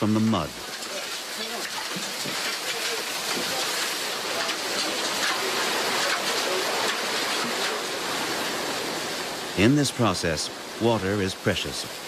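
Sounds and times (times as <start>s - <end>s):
water pouring and splashing: 0.0s - 12.0s.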